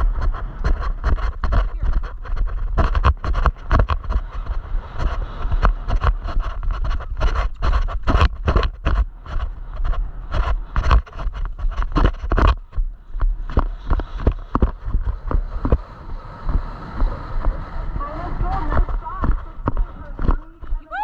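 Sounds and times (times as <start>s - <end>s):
hooves thudding in dirt: 0.0s - 21.0s
wind on microphone: 0.0s - 21.0s.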